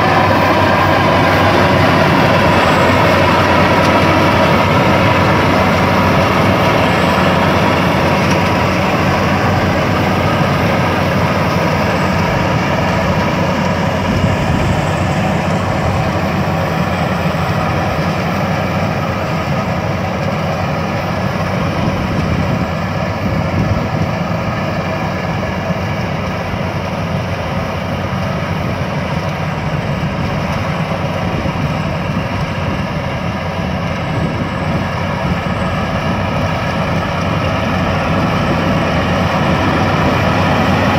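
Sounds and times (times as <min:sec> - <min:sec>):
combine harvester humming: 0:00.0 - 0:40.9.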